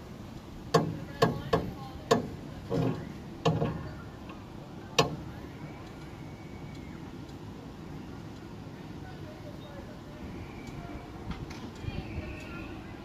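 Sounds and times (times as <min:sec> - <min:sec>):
low rumble of lift running: 0:00.0 - 0:13.0.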